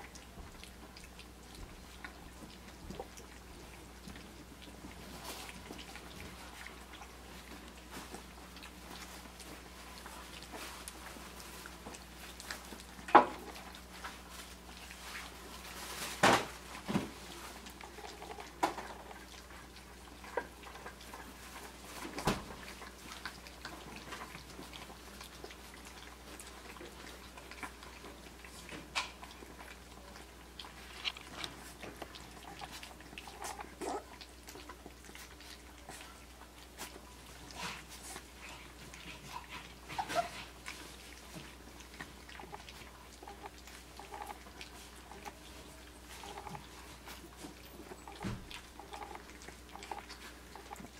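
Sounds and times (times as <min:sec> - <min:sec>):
puppies lapping and chewing: 0:00.0 - 0:50.9.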